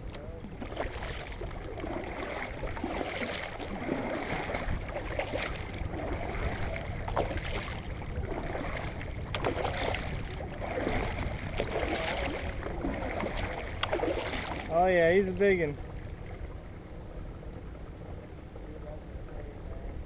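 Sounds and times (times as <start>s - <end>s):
water splashing around a kayak: 0.0s - 20.0s
wind rumble on microphone: 0.0s - 20.0s.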